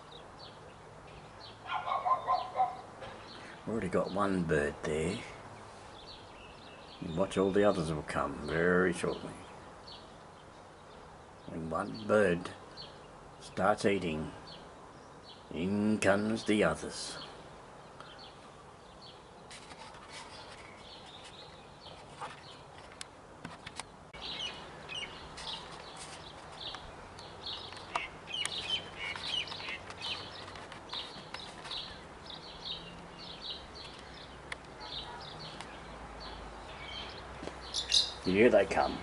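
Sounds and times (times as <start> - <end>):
wild birds chirping: 0.0 - 39.0.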